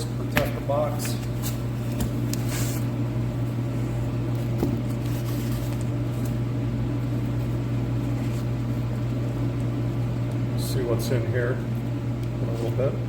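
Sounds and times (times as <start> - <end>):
space heater humming and blowing: 0.0 - 13.0.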